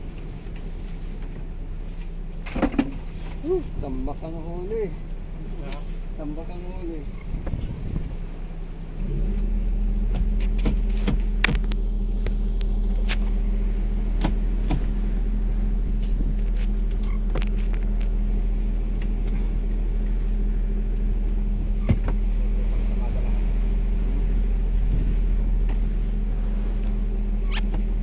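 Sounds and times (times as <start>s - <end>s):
boat motor humming: 0.0s - 28.0s.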